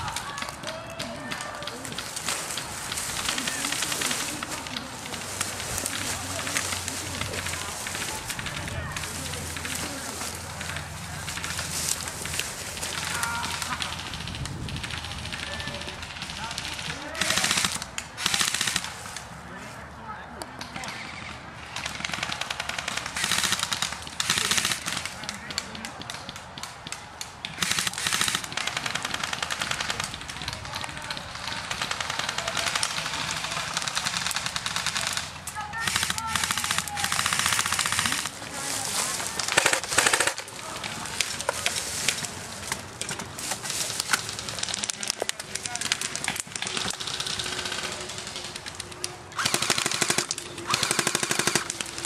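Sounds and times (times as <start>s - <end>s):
airsoft guns firing: 0.0s - 19.1s, 20.8s - 52.0s.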